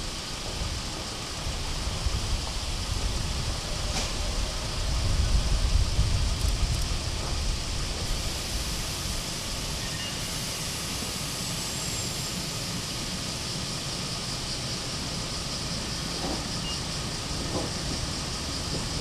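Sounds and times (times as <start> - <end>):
electric train running: 0.0 - 19.0.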